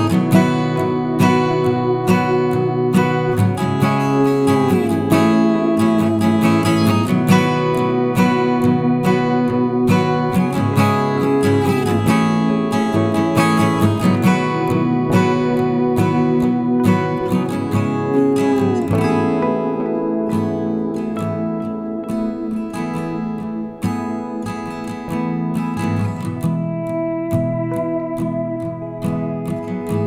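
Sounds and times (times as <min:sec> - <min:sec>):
acoustic guitar music: 0:00.0 - 0:30.0.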